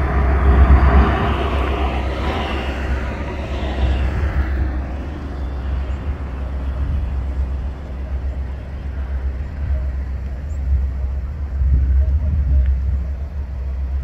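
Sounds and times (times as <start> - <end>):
distant propeller plane droning: 0.0 - 14.0
heavy low rumble: 0.0 - 14.0.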